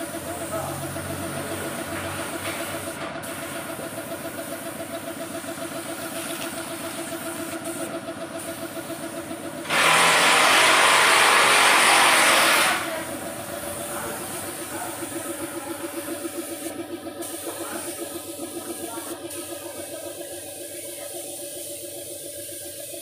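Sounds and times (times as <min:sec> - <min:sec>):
motor running with fast pulse: 0:00.0 - 0:23.0.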